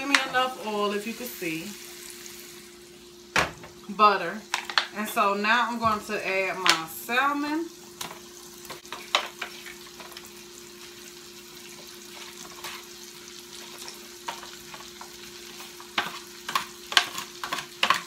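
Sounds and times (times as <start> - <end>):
vegetables sizzling in skillet: 0.0 - 18.0.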